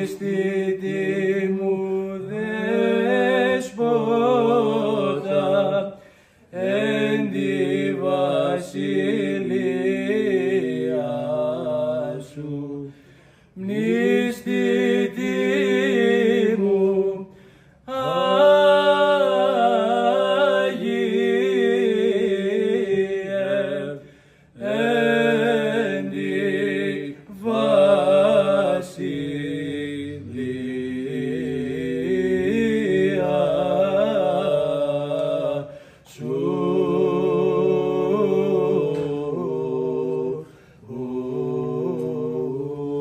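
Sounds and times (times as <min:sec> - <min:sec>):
men singing liturgical chant: 0:00.0 - 0:13.0, 0:13.6 - 0:43.0.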